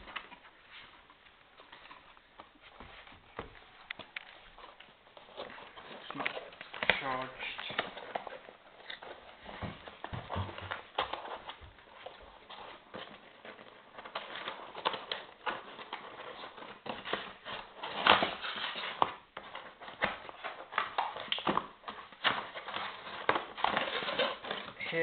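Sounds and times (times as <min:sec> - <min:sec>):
packaging being handled: 0:00.0 - 0:25.0.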